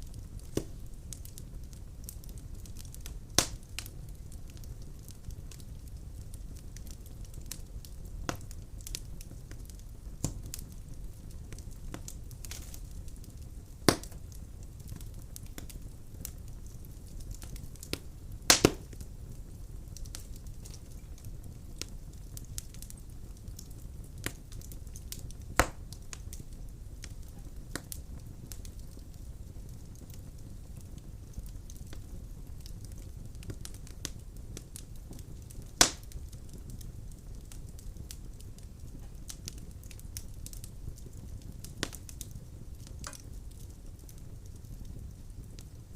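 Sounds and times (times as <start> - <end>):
fire rumbling and crackling: 0.0 - 45.9.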